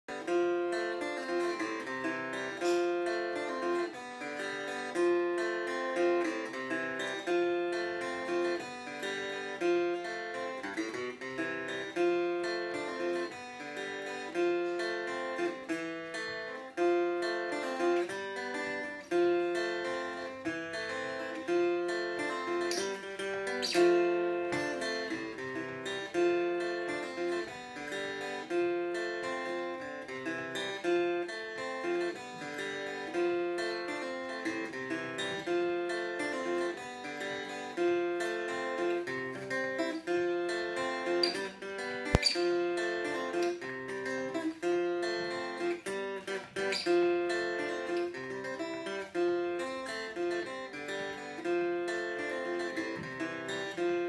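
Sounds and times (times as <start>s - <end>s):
acoustic guitar picking single notes: 0.1s - 54.0s.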